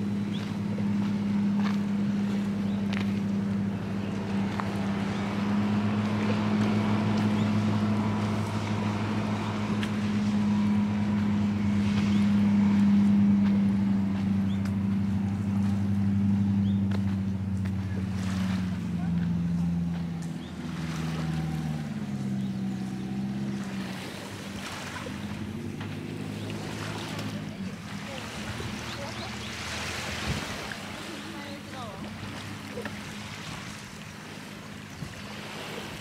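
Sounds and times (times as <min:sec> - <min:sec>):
motorboat engine humming: 0:00.0 - 0:36.0.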